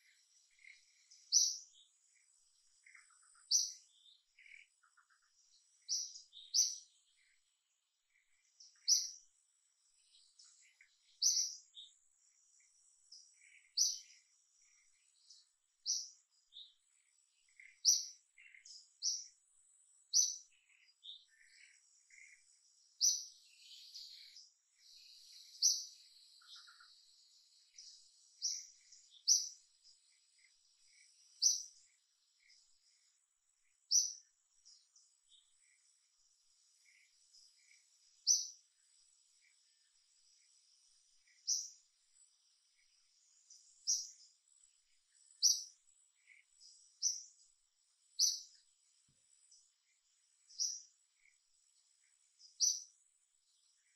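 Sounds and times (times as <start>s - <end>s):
bird high chirp: 0.0s - 7.5s, 8.1s - 9.3s, 9.9s - 19.4s, 20.0s - 53.9s
faint high insect whine: 0.0s - 53.9s
other birds chirping softly: 0.0s - 53.9s.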